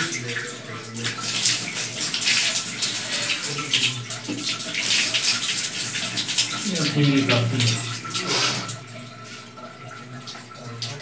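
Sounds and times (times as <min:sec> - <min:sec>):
tap water running into washbasin: 0:00.0 - 0:11.0.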